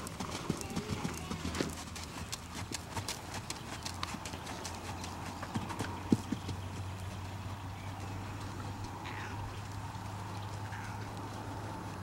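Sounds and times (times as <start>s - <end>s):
horse hooves cantering on sand: 0.0s - 12.0s.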